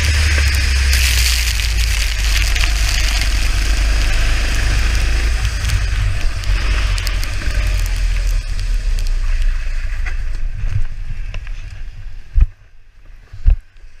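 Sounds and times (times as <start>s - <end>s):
go-kart engine: 0.0s - 11.6s
wind rumbling on microphone: 0.0s - 14.0s.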